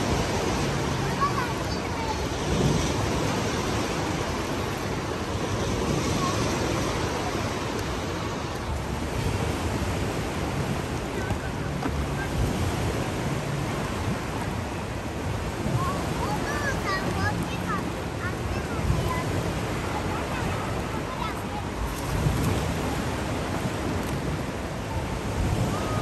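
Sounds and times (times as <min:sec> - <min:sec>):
waves splashing in a pool: 0:00.0 - 0:26.0.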